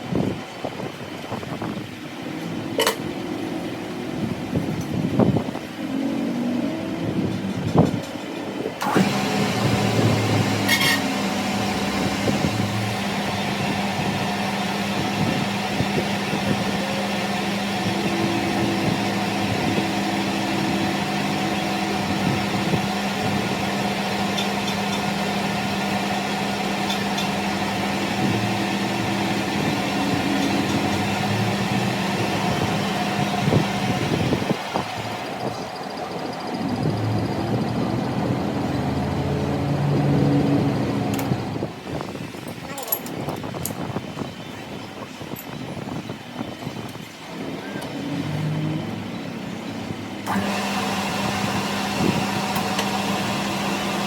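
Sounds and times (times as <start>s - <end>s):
workshop machine running: 0.0s - 54.0s.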